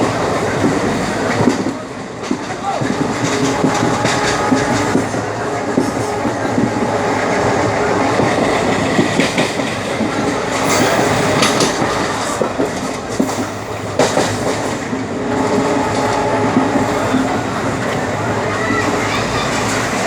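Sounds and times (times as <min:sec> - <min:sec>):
train wheels clattering on rails: 0:00.0 - 0:20.0.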